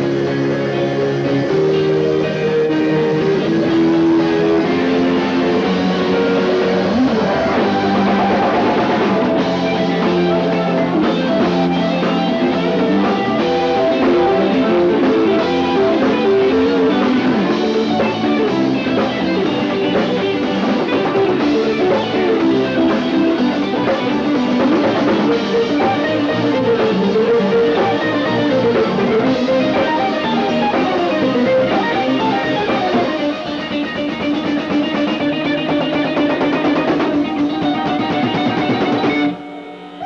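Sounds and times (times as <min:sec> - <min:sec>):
live rock band playing: 0:00.0 - 0:40.0.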